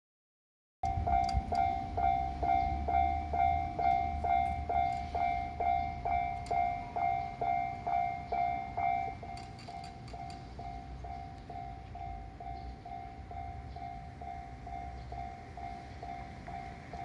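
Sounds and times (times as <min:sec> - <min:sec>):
railroad crossing warning bell: 0:00.8 - 0:17.0.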